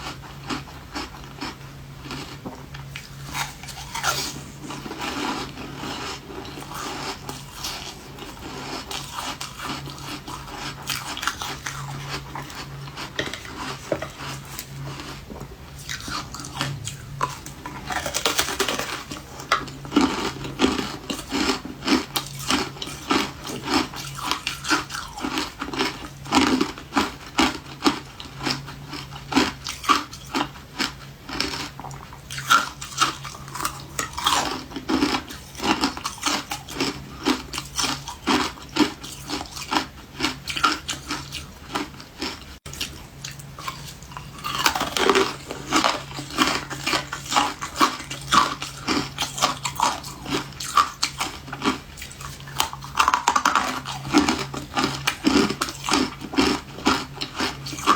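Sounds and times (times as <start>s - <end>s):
ice crunching being chewed: 0.0s - 57.9s.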